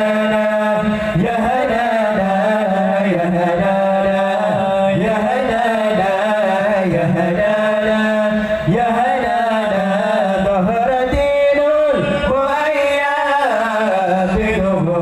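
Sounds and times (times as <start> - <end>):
young men singing devotional song: 0.0 - 15.0.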